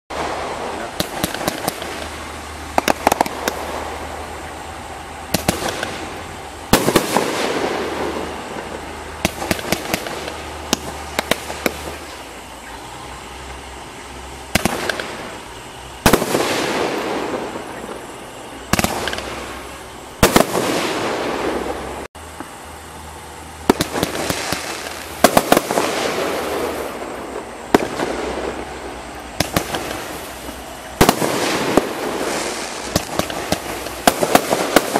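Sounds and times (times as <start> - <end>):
crackling firework pops: 0.1 - 4.4, 5.3 - 22.6, 23.6 - 34.9
firework reports: 0.1 - 34.9.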